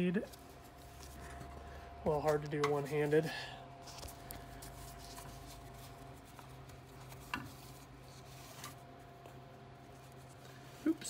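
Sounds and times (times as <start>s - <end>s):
faint steady hum: 0.0s - 11.0s
hands rustling on rope: 0.2s - 11.0s.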